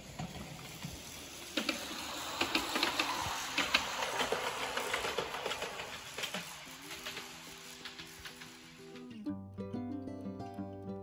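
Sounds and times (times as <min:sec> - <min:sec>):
train wheels clattering on track: 0:00.0 - 0:09.2.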